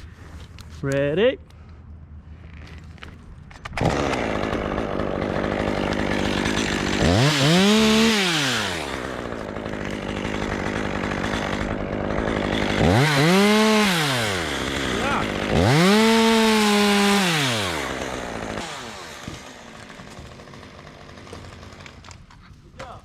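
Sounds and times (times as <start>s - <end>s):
chainsaw running and revving: 3.8s - 22.2s.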